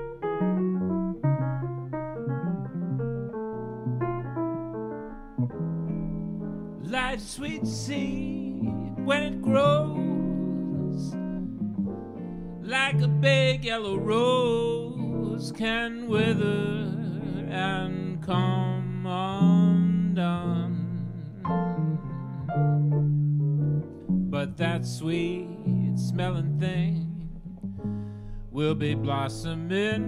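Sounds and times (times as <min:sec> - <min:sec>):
guitar with sliding notes: 0:00.0 - 0:28.3
sustained piano chords: 0:00.0 - 0:30.0.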